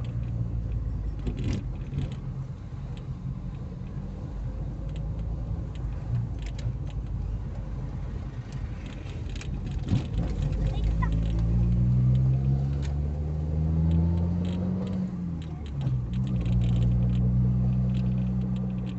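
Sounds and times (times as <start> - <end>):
small clicks and rattles: 0.0 - 13.0, 13.8 - 18.9
car engine and road rumble: 0.0 - 18.9.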